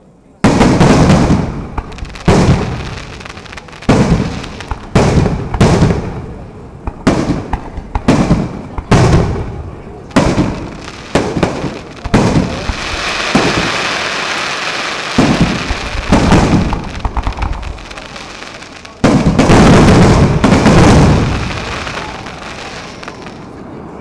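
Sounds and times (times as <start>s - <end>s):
fireworks bursting with booms: 0.4s - 23.7s
fireworks crackling: 0.4s - 24.0s.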